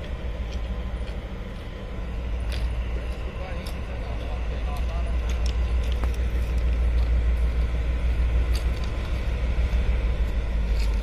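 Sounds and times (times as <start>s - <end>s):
diesel locomotive engine rumbling: 0.0s - 11.0s.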